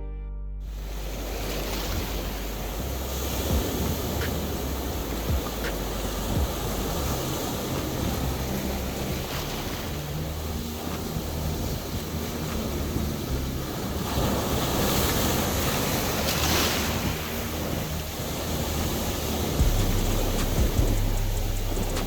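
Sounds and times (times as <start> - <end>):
sea waves washing onto beach: 0.7 - 22.0
wind buffeting microphone: 0.7 - 22.0.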